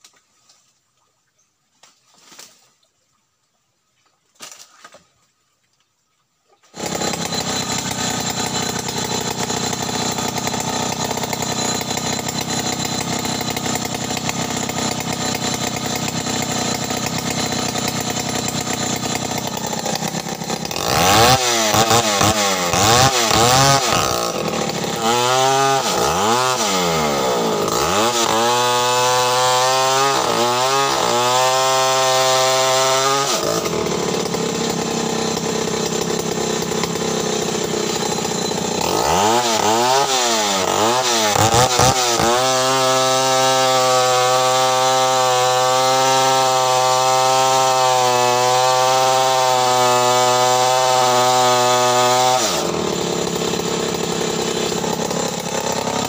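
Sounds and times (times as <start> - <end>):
chainsaw running and revving: 6.8 - 56.0.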